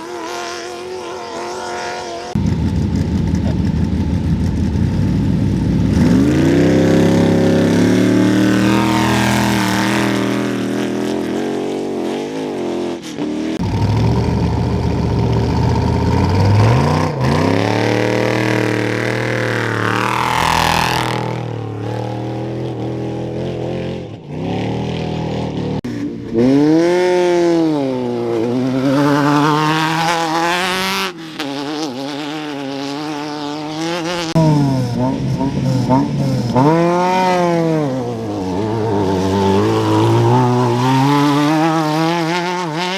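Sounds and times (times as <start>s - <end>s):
off-road vehicle engines revving: 0.0s - 42.9s.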